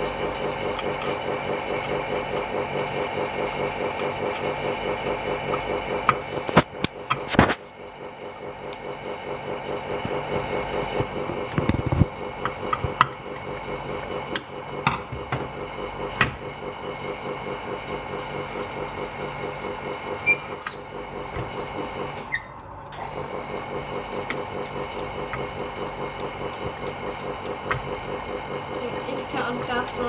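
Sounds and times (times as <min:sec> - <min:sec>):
machine fast-pulsing hum: 0:00.0 - 0:30.0.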